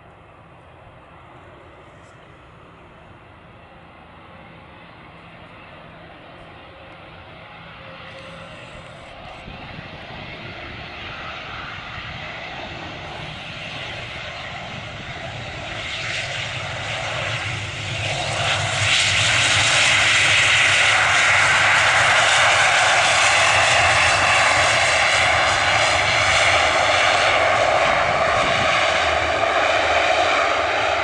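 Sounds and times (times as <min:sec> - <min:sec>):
turboprop airliner engines: 0:00.0 - 0:31.0.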